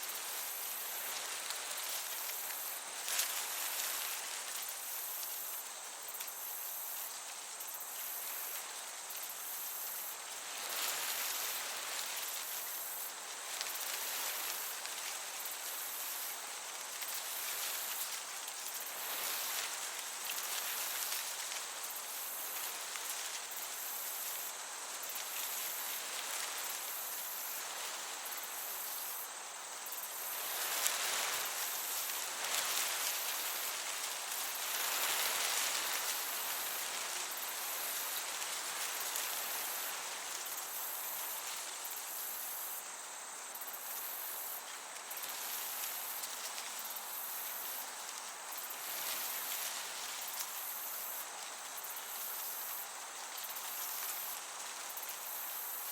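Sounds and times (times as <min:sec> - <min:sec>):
crickets chirping: 0:00.0 - 0:55.9
gentle breeze hiss: 0:00.0 - 0:55.9.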